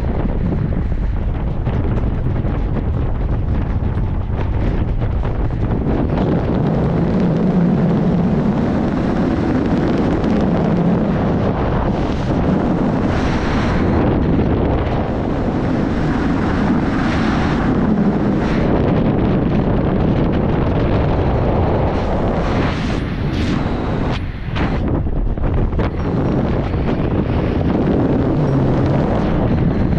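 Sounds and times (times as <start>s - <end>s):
wind noise on microphone: 0.0s - 29.9s.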